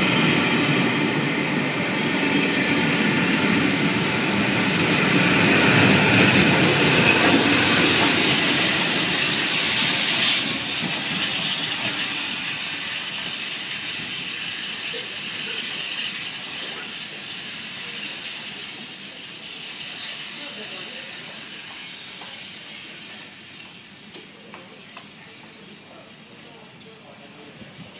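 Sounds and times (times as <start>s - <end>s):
train coaches rolling by: 0.0s - 27.9s.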